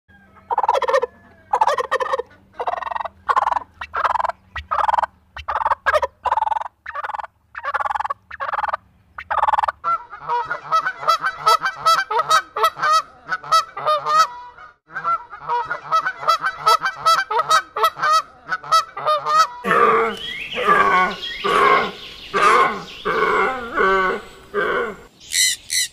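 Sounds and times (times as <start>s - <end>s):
turkeys gobbling: 0.2s - 24.2s
geese honking: 0.4s - 24.2s.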